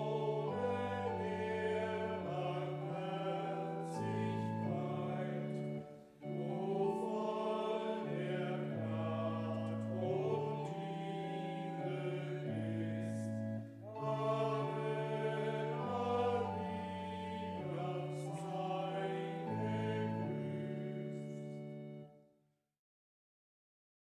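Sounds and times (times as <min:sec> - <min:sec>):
choir singing: 0:00.0 - 0:22.1.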